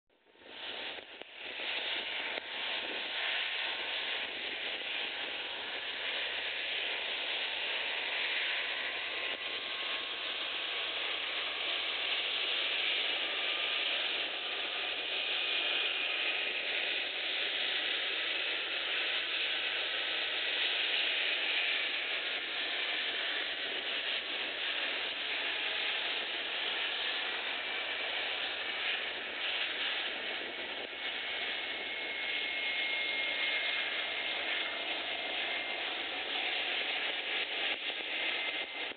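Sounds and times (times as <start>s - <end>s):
jet engines running: 0.2s - 38.9s.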